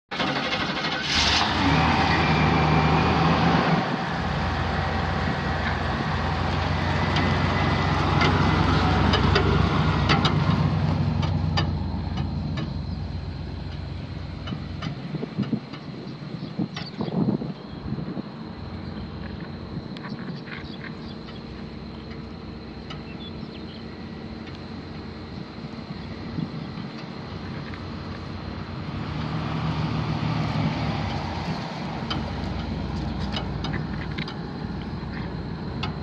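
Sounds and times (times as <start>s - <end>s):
truck engine starting and idling: 0.1s - 36.0s.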